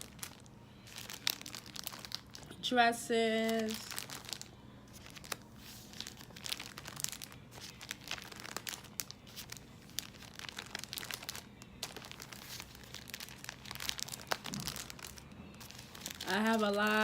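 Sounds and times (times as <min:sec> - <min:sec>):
paper envelopes rustling: 0:00.0 - 0:02.5, 0:03.4 - 0:17.0.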